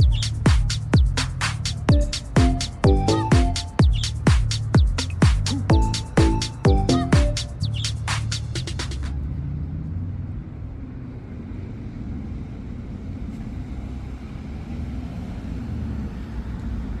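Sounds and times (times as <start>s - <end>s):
low outdoor rumble: 0.0s - 14.5s.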